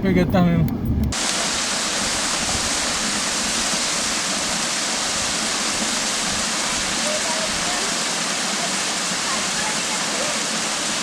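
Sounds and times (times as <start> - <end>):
waterfall rushing: 1.1 - 11.0.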